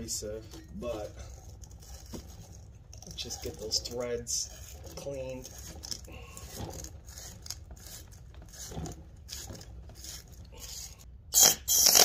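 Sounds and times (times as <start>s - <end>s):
brush scrubbing threads: 0.0s - 11.1s.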